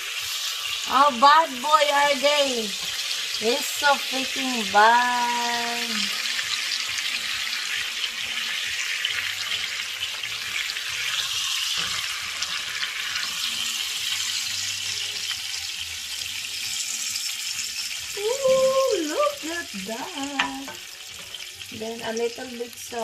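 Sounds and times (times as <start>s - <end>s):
butter sizzling in a frying pan: 0.0s - 23.0s.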